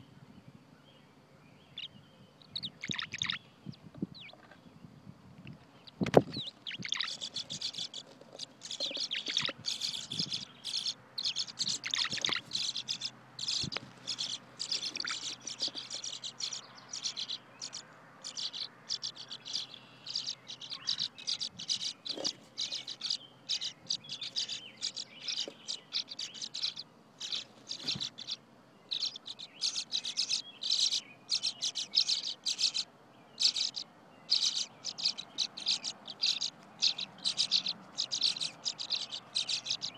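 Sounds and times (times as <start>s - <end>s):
swallows twittering: 1.6s - 4.7s, 5.7s - 39.9s.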